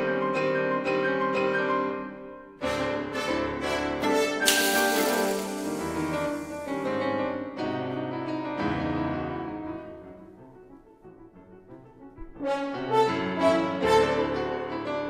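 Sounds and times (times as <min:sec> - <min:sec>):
orchestral music with piano and horns: 0:00.0 - 0:15.0.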